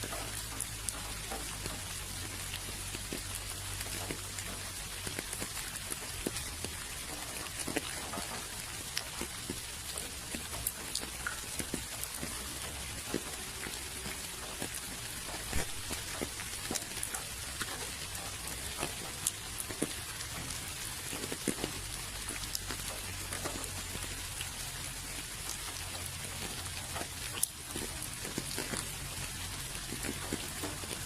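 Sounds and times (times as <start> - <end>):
raindrops pattering on a surface: 0.0 - 31.0.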